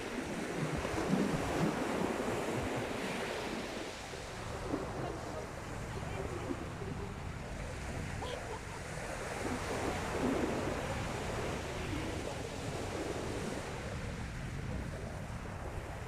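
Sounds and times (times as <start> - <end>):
sea waves washing onto beach: 0.0 - 16.0
wind buffeting microphone: 0.0 - 16.0.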